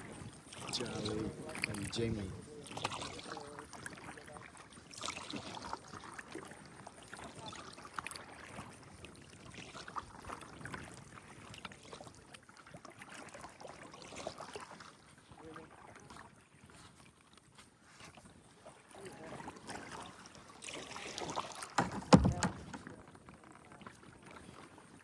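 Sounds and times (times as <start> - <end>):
paddle strokes splashing water: 0.0 - 25.0.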